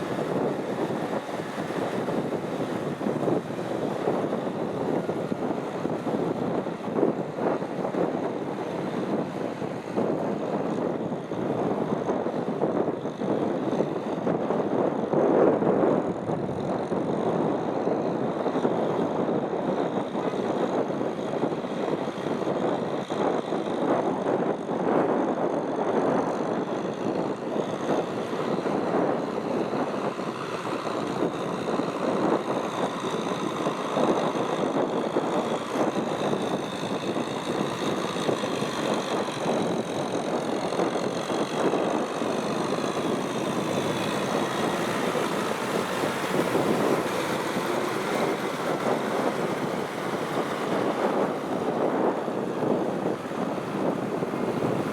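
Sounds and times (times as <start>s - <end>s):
tractor diesel engine running: 0.0s - 23.8s, 26.3s - 54.9s.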